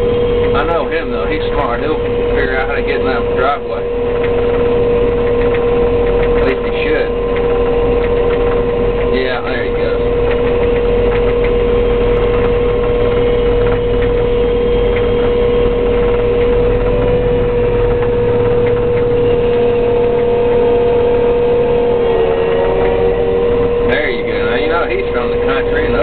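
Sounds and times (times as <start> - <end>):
combine harvester engine running: 0.0 - 26.0.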